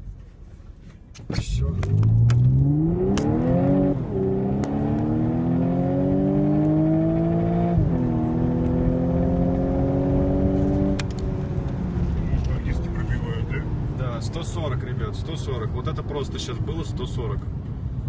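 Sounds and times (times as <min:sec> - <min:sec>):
car engine accelerating: 0:01.3 - 0:18.0.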